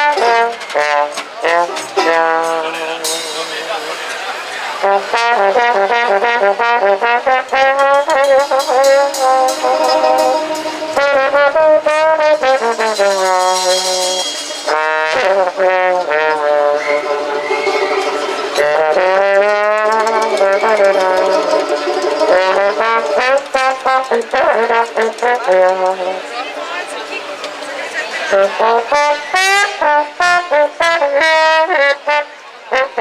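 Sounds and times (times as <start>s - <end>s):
muted trombone solo: 0.0s - 26.3s, 28.3s - 33.0s
drums: 0.0s - 32.2s
banjo strumming: 0.0s - 33.0s.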